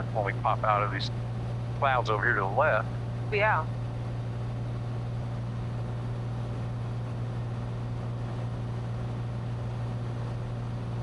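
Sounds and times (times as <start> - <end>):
airplane engine and propeller drone: 0.0 - 11.0.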